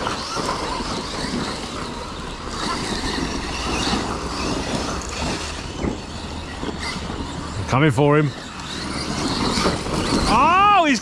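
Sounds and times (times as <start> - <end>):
tyres churning dirt: 0.0 - 11.0.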